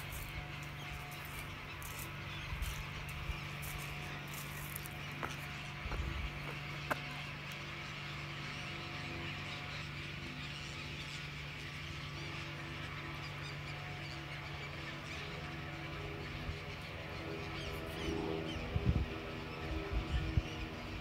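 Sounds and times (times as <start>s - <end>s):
flock of gulls calling: 0.0s - 21.0s
steady low hum: 0.0s - 21.0s.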